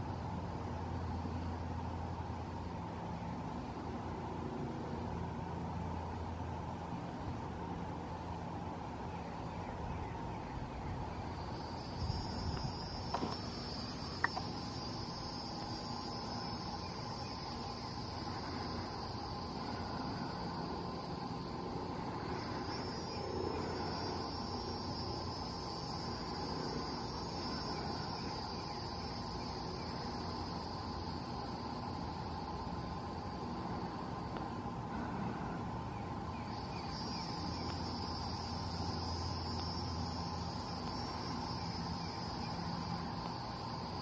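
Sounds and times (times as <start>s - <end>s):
insects trilling: 5.0s - 44.0s.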